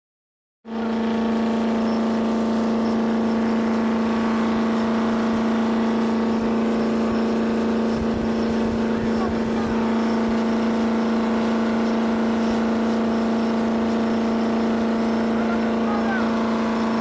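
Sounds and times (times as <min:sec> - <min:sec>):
boat engine droning: 0:00.7 - 0:17.0.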